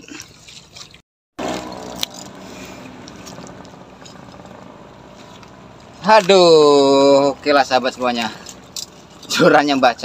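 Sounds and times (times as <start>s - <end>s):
water: 0.0s - 10.0s
wind: 0.0s - 10.0s
faint low motor hum: 1.4s - 10.0s.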